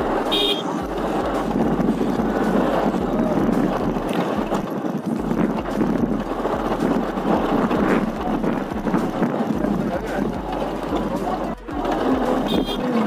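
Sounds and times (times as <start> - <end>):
motorbike engine running: 0.0 - 13.0
wind buffeting microphone: 0.0 - 13.0.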